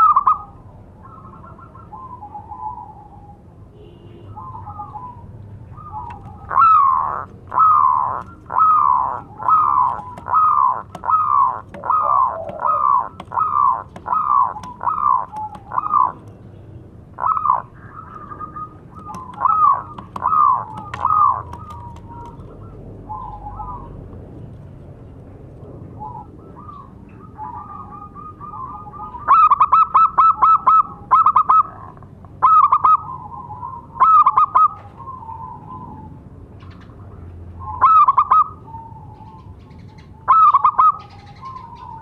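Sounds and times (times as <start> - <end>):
dove cooing and calling: 0.0 - 3.6, 4.3 - 16.3, 17.2 - 24.1, 25.6 - 42.0.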